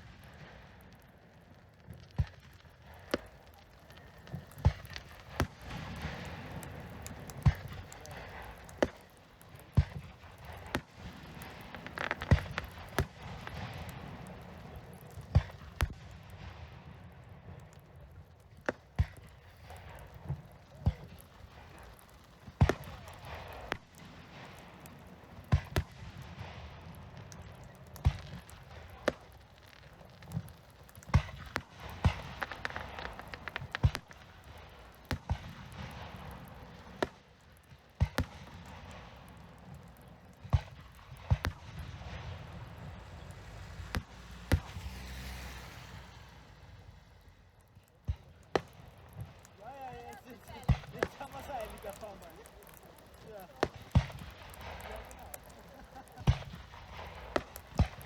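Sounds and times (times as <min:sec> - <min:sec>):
steady hiss: 0:00.0 - 0:47.5, 0:48.4 - 0:58.0
firework shells bursting: 0:00.0 - 0:58.0.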